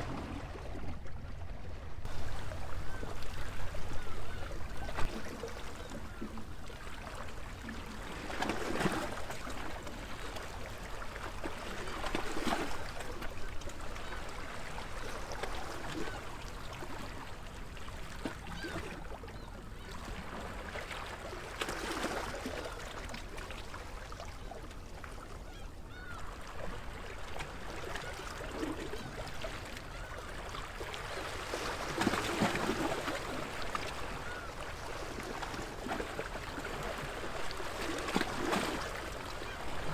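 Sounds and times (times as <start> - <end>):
water lapping and trickling: 0.0 - 39.9.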